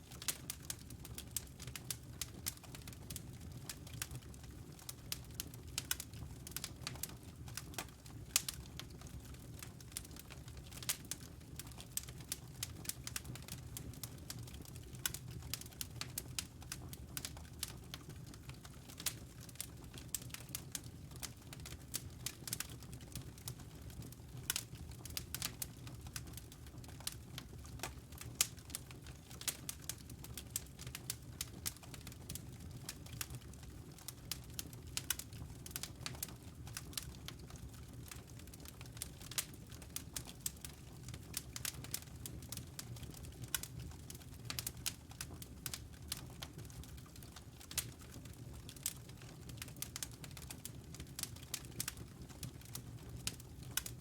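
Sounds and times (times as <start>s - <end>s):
logs crackling and popping: 0.0s - 54.0s
low rumble of flames: 0.0s - 54.0s.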